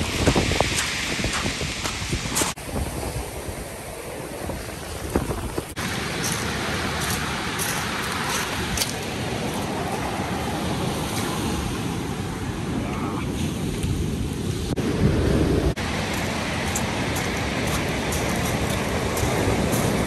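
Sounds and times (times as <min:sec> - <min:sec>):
surf washing up beach: 0:00.0 - 0:20.0.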